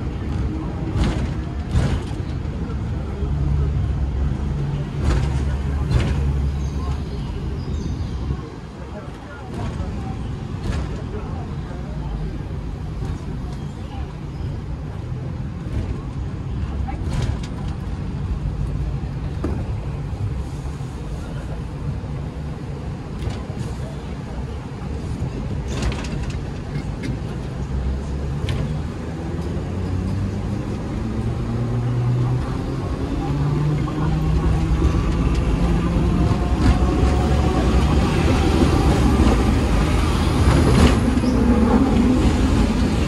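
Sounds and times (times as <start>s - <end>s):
tram rumbling on rails: 0.0s - 43.0s.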